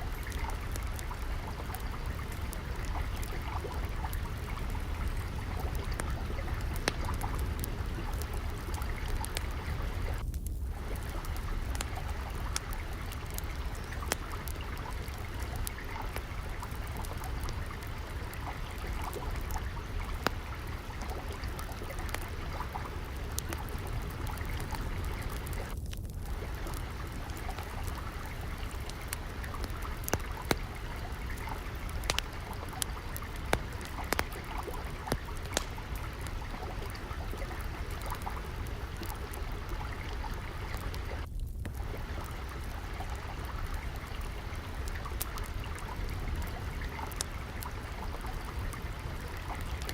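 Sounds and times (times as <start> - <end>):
trickling flowing water: 0.0 - 49.9
wood fire crackling: 0.0 - 49.9.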